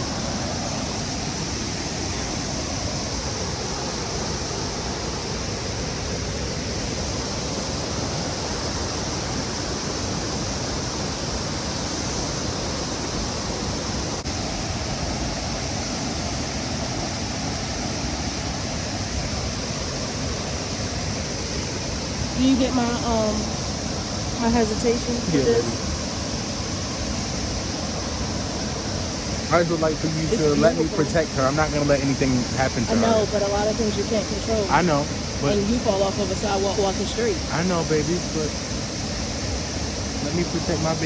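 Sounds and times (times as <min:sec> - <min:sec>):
falling water roaring: 0:00.0 - 0:41.0.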